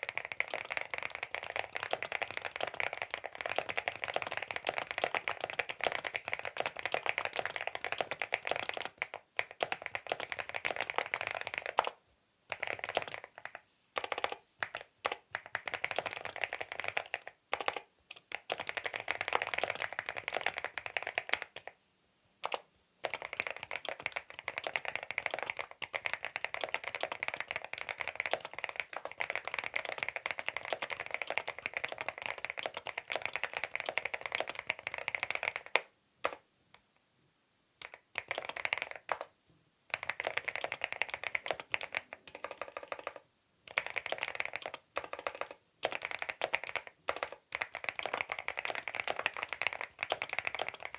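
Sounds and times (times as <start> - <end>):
mechanical keyboard typing: 0.0 - 21.7, 22.4 - 36.4, 37.8 - 39.3, 39.9 - 50.9.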